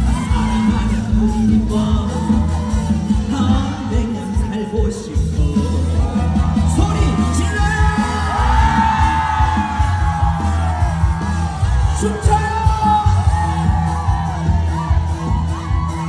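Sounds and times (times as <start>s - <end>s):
man singing: 0.0s - 10.7s, 11.7s - 14.2s
backing track with bass beat: 0.0s - 16.0s.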